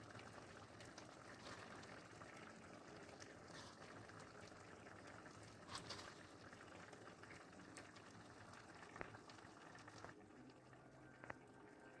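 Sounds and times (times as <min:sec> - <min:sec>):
pot bubbling on the boil: 0:00.0 - 0:12.0.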